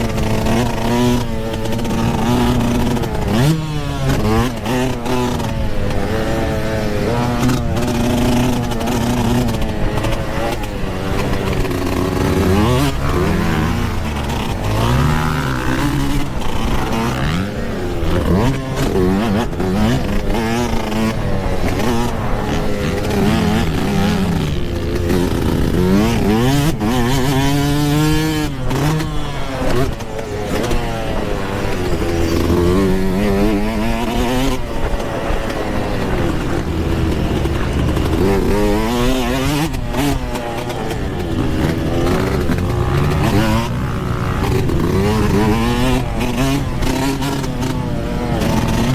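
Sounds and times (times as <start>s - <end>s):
constant rushing noise: 0.0s - 48.9s
dirt bike engine revving: 0.0s - 48.9s.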